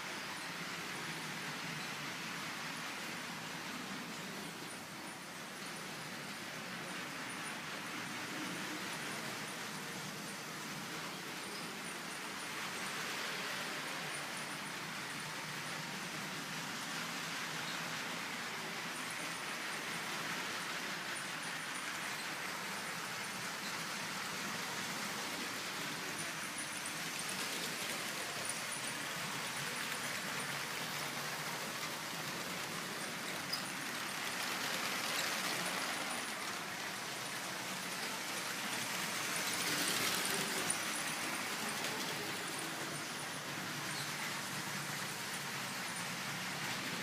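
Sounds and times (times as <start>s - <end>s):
indoor room background hiss: 0.0s - 47.0s.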